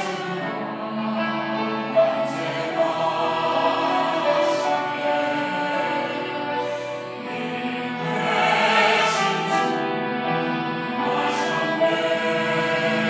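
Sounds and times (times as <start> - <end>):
choir singing a hymn: 0.0 - 13.0.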